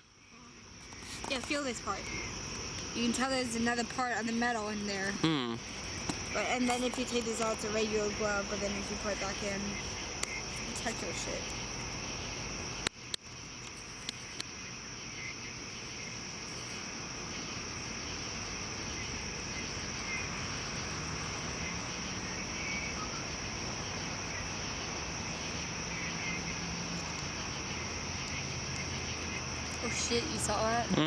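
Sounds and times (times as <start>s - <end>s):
crickets and night insects trilling: 0.0s - 31.0s.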